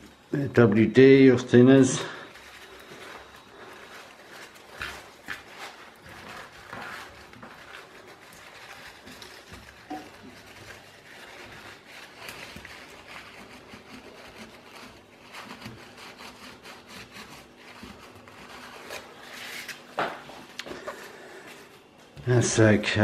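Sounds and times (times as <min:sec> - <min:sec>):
cloth rubbing metal: 0:00.0 - 0:20.0.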